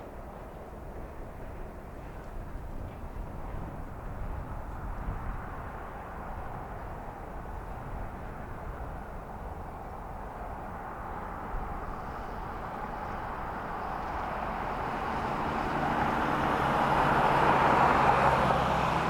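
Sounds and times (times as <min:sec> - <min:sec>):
diesel locomotive engine hum: 0:00.0 - 0:19.0.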